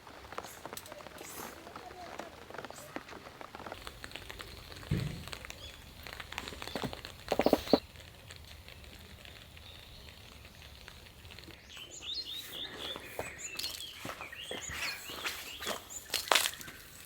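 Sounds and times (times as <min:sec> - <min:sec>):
rain pattering and dripping: 0:00.0 - 0:17.0
small birds chirping: 0:00.1 - 0:17.0.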